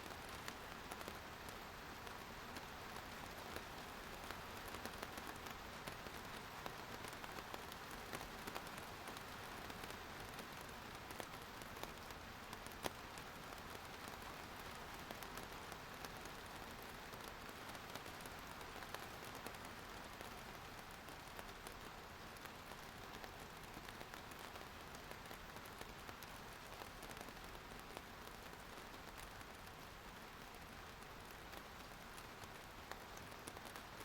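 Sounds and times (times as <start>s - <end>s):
rain patter: 0.0s - 34.0s.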